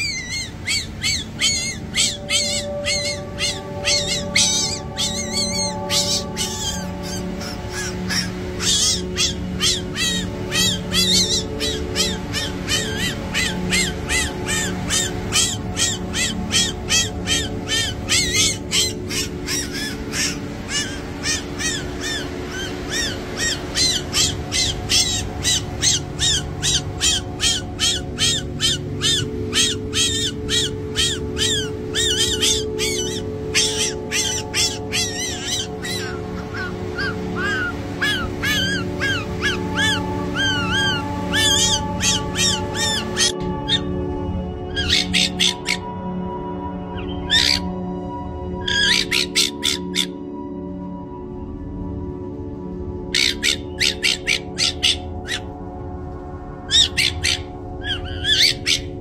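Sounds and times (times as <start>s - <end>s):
fox kits squeaking: 0.0s - 43.9s, 44.8s - 45.9s, 53.2s - 55.5s, 56.7s - 59.0s
low background music: 0.0s - 59.0s.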